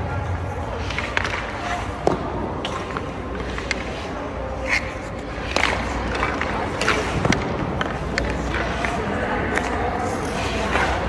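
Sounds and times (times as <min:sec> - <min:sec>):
hockey sticks hitting pucks: 0:00.0 - 0:11.0
low rink hum: 0:00.0 - 0:11.0
skates scraping ice: 0:00.0 - 0:11.0.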